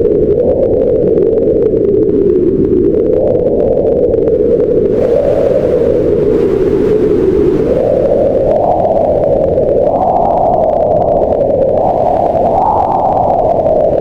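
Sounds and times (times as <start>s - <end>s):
wind blowing in gusts: 0.0s - 14.0s.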